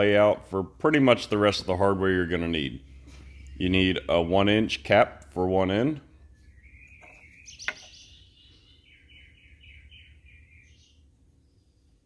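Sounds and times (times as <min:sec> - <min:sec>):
songbird singing faintly: 0:02.1 - 0:12.0.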